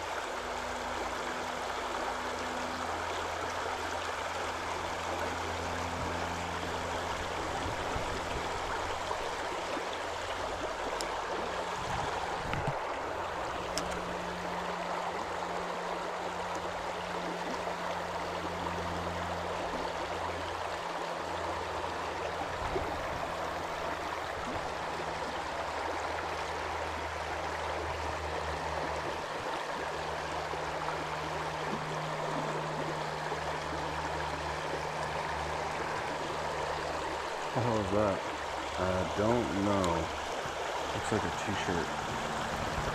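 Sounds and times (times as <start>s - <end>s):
river babbling over stones: 0.0s - 42.9s.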